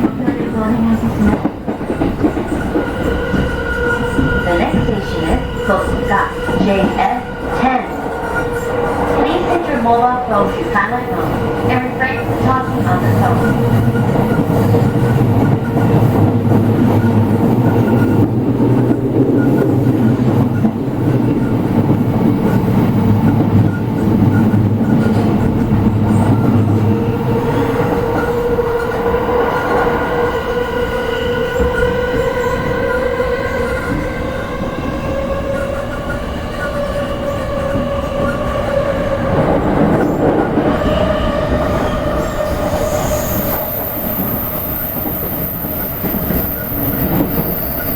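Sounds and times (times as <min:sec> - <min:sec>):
low train rumble: 0:00.0 - 0:47.9
train wheels humming on rails: 0:00.0 - 0:47.9.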